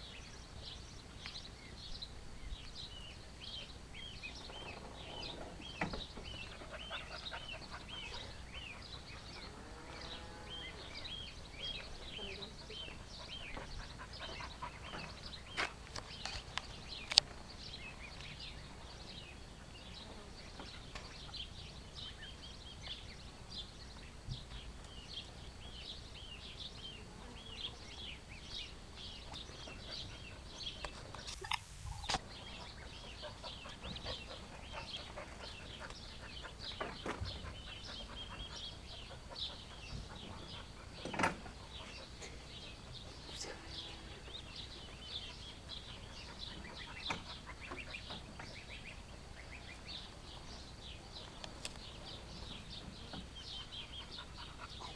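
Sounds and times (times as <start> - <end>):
ducklings peeping: 0.1 - 54.9.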